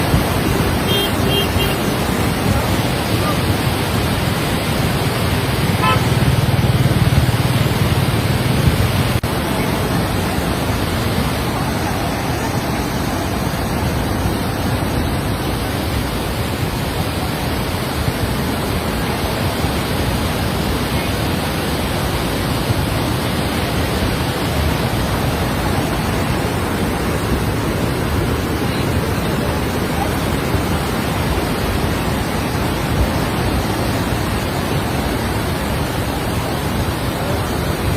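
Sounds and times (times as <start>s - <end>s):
river rushing: 0.0s - 37.9s.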